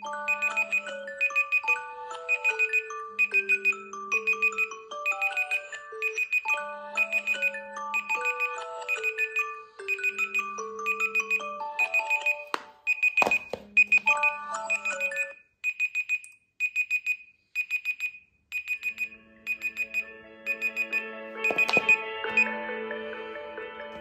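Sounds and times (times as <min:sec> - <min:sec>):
melodic alarm tune: 0:00.0 - 0:15.5, 0:18.6 - 0:22.6
rapid high beeping alarm: 0:00.0 - 0:22.5.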